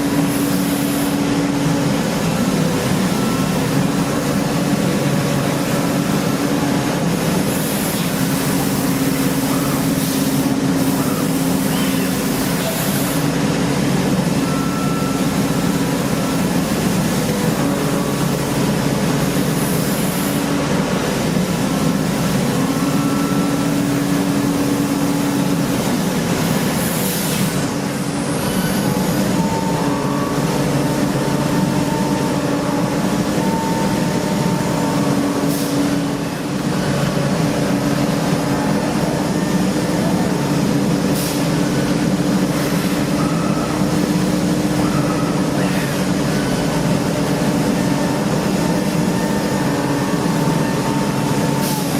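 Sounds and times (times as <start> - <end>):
machine noise: 0.0 - 51.9.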